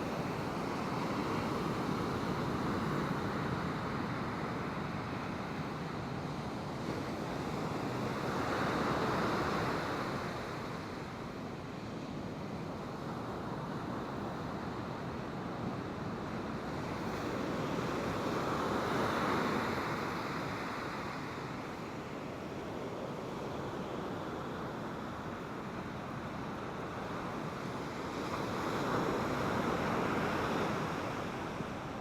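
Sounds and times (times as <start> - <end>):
ocean surf washing on beach: 0.0 - 32.0.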